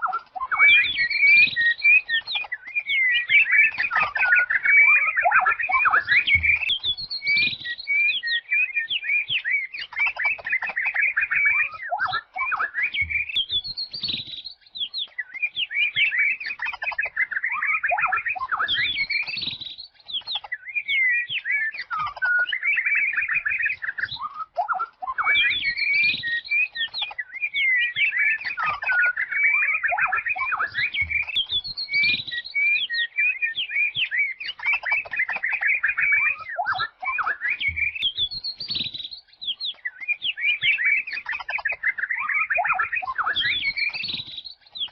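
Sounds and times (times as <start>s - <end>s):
songbird chirping: 0.0s - 44.9s.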